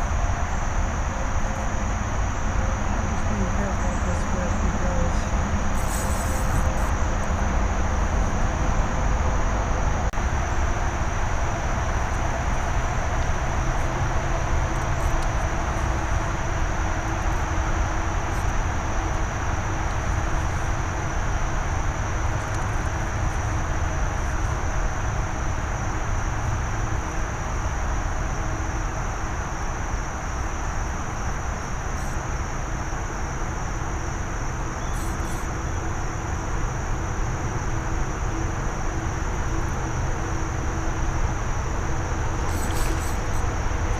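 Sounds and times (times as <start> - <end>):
crickets trilling: 0.0 - 43.9.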